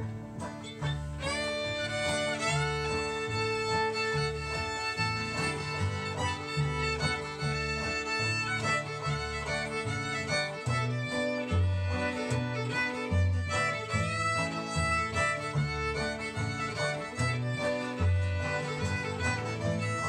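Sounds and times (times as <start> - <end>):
acoustic guitar: 0.0 - 20.0
banjo: 0.0 - 20.0
fiddle bowed lead melody: 0.0 - 20.0
upright bass: 0.0 - 20.0.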